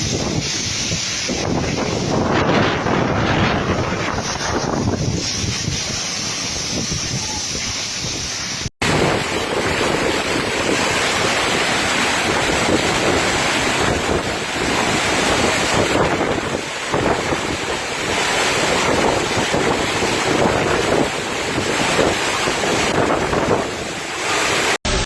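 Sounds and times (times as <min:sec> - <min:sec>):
wind buffeting microphone: 0:00.0 - 0:24.8
heavy rain downpour: 0:00.0 - 0:25.0.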